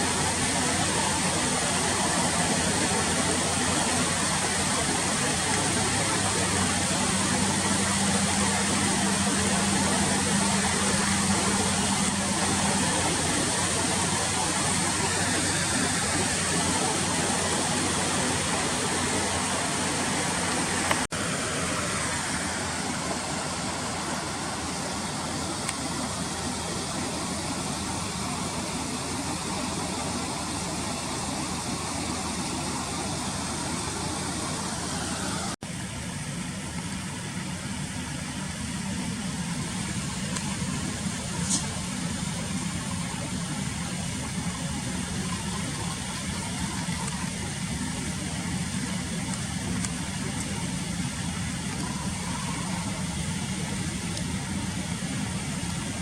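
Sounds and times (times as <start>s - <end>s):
flowing water rushing: 0.0s - 56.0s
low engine-like rumble: 0.0s - 56.0s.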